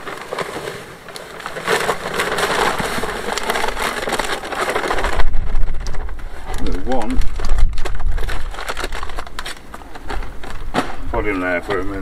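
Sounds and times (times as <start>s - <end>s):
powder pouring into plastic vat: 0.0s - 10.7s
crackling plastic: 0.0s - 12.0s.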